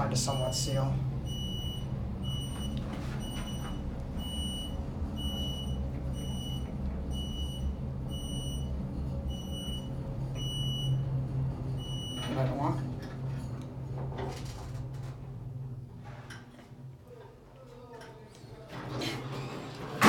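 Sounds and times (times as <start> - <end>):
elevator low hum: 0.0 - 20.0.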